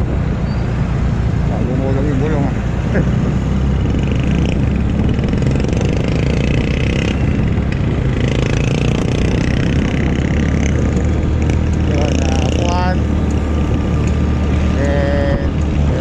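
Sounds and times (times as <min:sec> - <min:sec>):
road and wind noise: 0:00.0 - 0:16.0
scooter engine running: 0:01.0 - 0:16.0.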